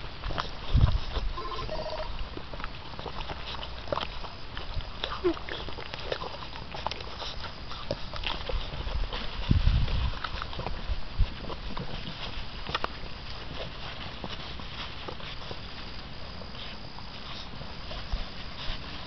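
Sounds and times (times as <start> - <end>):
puppies scuffling in grass: 0.0 - 19.0.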